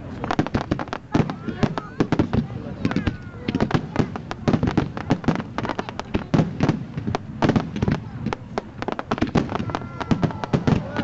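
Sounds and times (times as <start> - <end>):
fireworks bangs and bursts: 0.0 - 11.0
fireworks crackling: 0.0 - 11.0.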